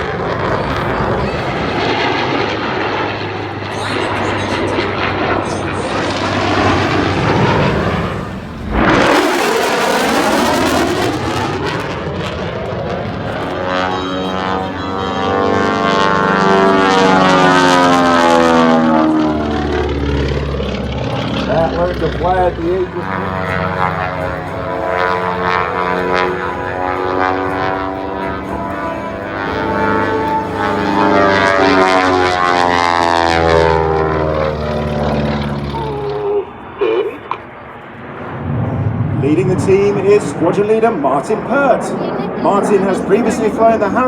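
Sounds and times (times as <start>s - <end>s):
airplane engine flying past: 0.0s - 44.0s.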